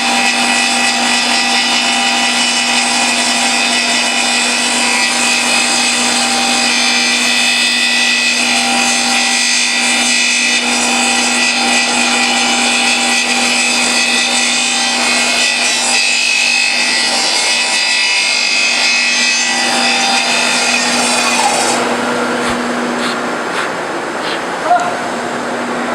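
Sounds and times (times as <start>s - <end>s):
saw cutting wooden log: 0.0s - 25.0s.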